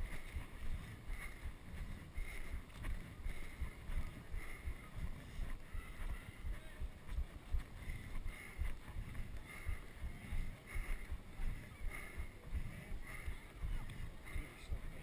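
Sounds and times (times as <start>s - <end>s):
wind rumble: 0.0s - 15.0s.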